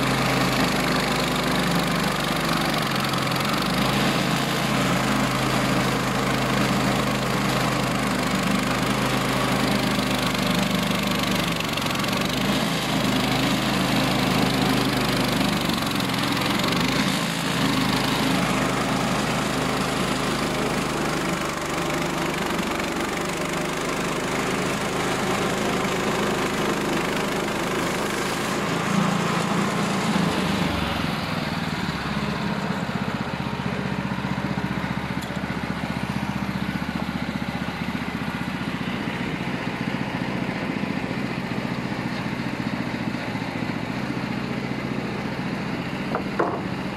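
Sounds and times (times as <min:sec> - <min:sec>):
small petrol engine running: 0:00.0 - 0:46.9.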